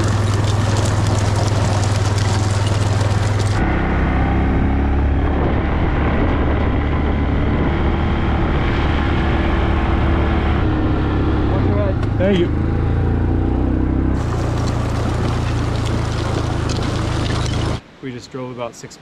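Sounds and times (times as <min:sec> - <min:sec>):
atv engine running: 0:00.0 - 0:08.5, 0:09.6 - 0:17.8.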